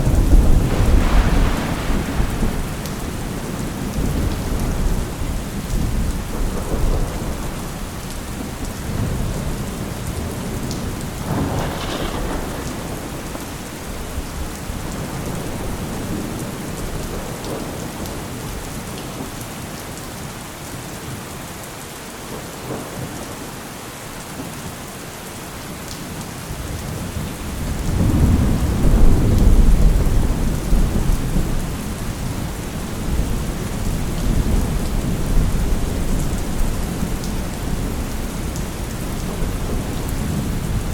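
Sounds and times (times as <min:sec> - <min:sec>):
rolling thunder rumbling: 0:00.0 - 0:18.7, 0:26.6 - 0:40.9
steady rain falling: 0:00.0 - 0:40.9.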